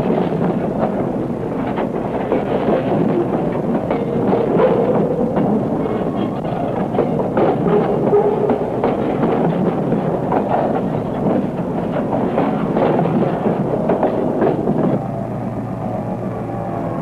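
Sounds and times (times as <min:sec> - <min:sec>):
wheels and couplers clanking: 0:00.0 - 0:15.0.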